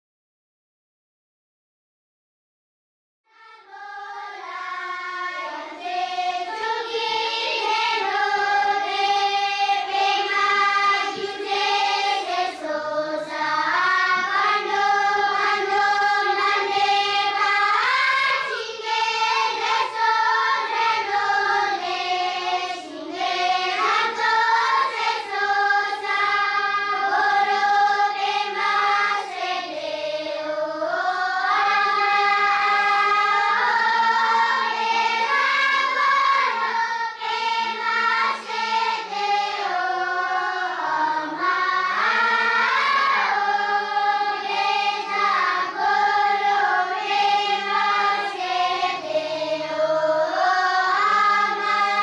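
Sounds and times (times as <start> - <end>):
choir singing held notes: 3.4 - 52.0.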